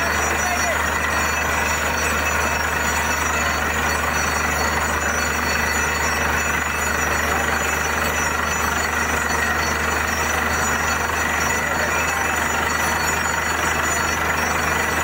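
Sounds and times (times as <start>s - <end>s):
drilling rig running: 0.0s - 15.0s.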